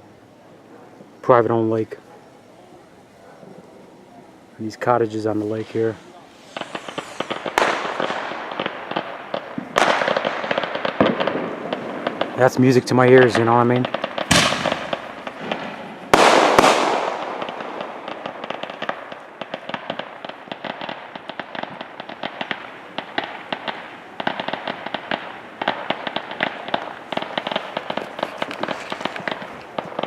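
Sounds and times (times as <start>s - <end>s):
fireworks bangs: 4.4s - 30.0s
fireworks crackling pops: 4.6s - 30.0s.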